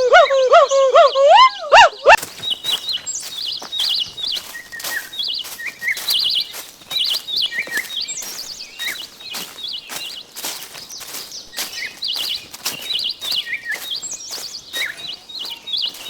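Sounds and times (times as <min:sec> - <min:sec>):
bird chirping warbled phrases: 0:00.0 - 0:16.0.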